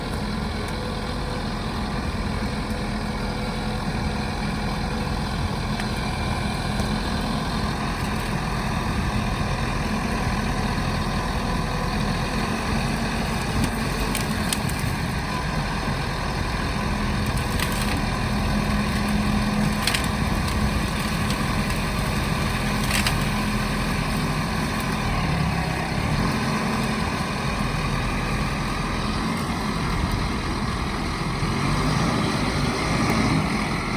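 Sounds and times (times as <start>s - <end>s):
backhoe loader engine running: 0.0s - 33.9s.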